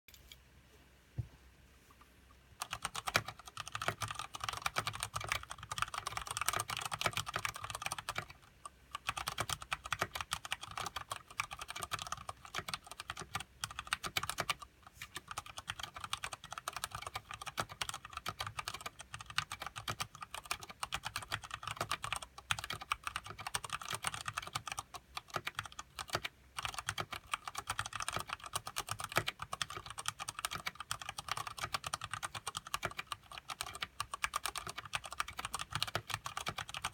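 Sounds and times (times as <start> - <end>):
fast typing on mechanical keyboard: 2.6 - 36.9.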